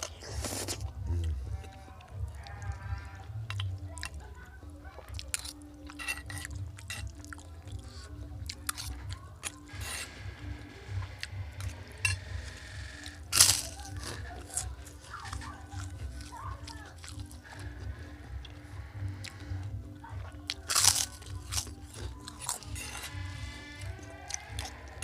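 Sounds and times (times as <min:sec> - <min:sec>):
chewing and crunching: 0:00.0 - 0:25.0.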